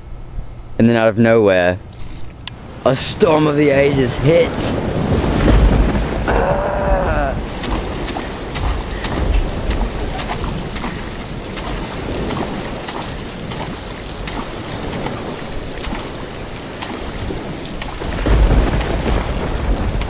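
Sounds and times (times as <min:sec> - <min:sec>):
steady rain: 0:02.4 - 0:20.0
thunder rolling: 0:02.6 - 0:20.0.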